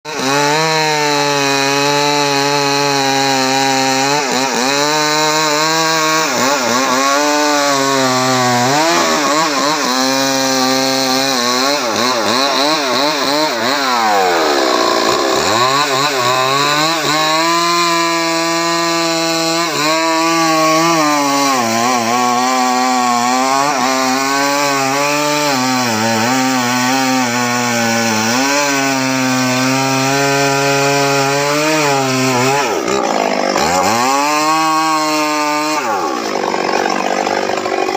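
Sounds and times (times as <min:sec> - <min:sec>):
chainsaw cutting wood: 0:00.1 - 0:37.9.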